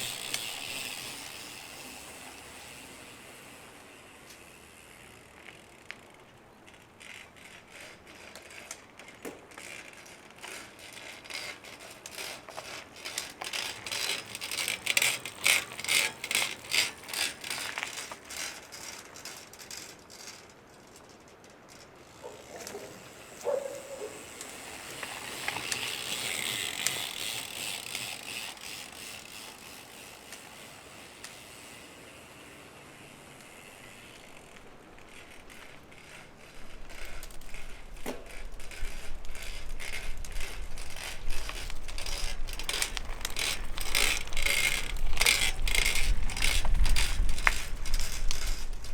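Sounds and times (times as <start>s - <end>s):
bicycle hub clicking: 0.0s - 48.9s.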